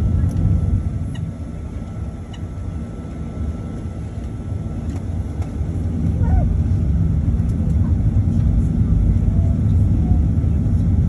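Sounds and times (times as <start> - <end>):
faint engine whine: 0.0 - 11.0
jet engine rumble in cabin: 0.0 - 11.0.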